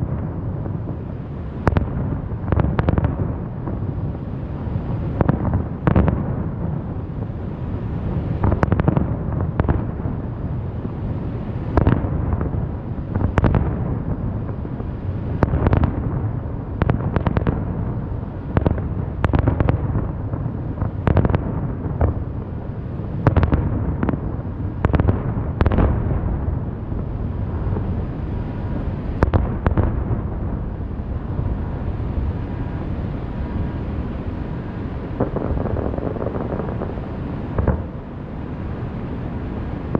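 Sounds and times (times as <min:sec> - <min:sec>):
continuous low rumble: 0:00.0 - 0:39.9
fireworks bursting: 0:00.0 - 0:39.9.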